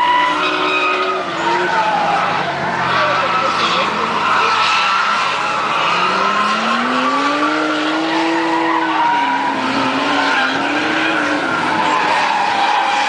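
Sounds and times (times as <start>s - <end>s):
car engine revving: 0.0s - 13.0s
tyre squeal: 0.0s - 13.0s.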